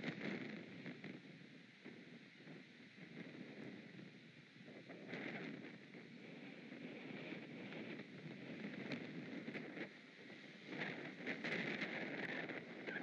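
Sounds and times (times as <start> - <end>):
wind gusting through tree: 0.0 - 13.0.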